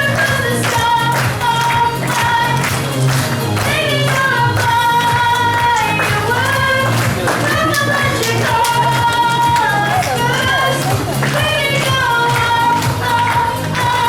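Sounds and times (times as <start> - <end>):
pop backing track with beat: 0.0 - 14.0.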